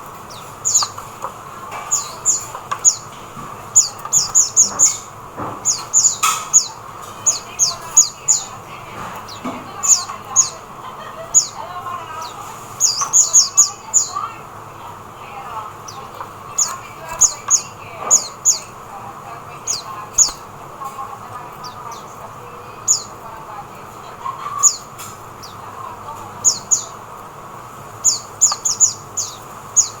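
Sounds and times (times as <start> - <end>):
bird chirping high: 0.0 - 27.2, 27.9 - 30.0.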